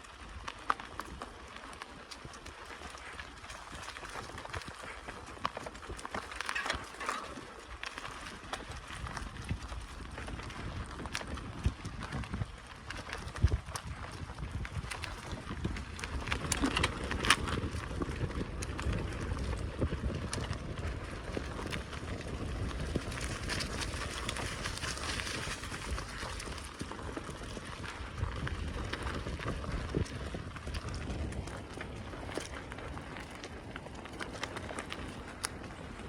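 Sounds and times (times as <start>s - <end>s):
bicycle tyres crunching on track: 0.0s - 36.0s
small clicks and rattles: 0.0s - 36.0s.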